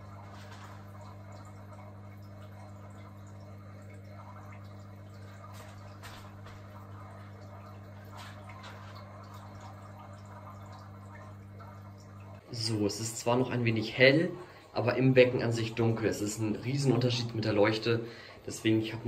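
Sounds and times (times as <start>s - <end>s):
faint water drips: 0.0s - 19.0s
steady low hum: 0.0s - 19.0s.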